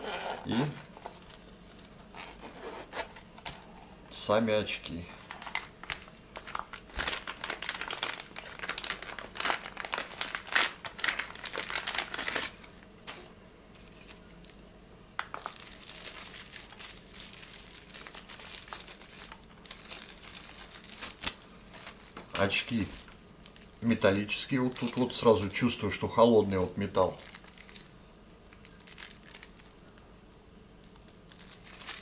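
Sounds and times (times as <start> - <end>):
plastic wrapping crinkling: 5.2 - 14.6, 15.2 - 30.0, 30.7 - 32.0.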